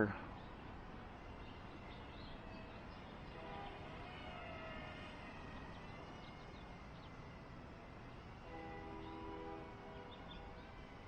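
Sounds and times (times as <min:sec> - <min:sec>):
distant electric model plane whine: 0:00.0 - 0:11.0
steady wind-like hiss: 0:00.0 - 0:11.0.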